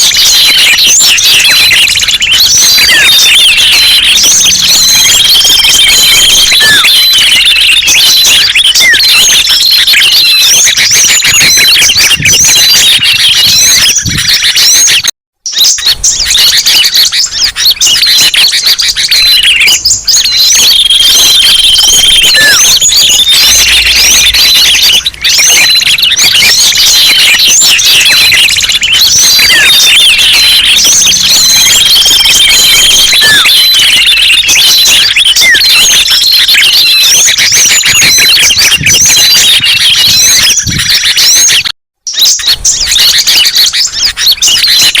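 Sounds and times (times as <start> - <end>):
many small birds chirping: 0.0 - 45.0.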